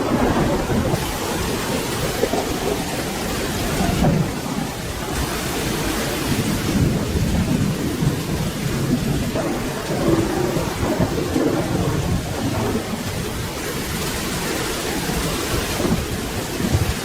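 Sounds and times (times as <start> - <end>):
low thunder rumbling: 0.0 - 17.0
steady rain: 0.0 - 17.0.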